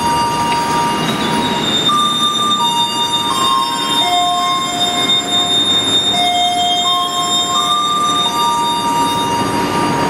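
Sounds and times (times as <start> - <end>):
high shrill tones: 0.0 - 10.0
train rumble: 0.0 - 10.0.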